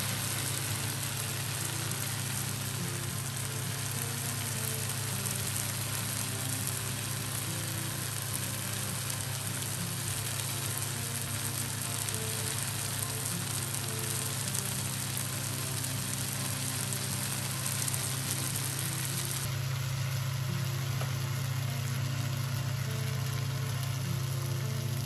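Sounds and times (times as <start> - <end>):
soft background music: 0.0 - 25.0
stir-fry sizzling in a wok: 0.0 - 25.0.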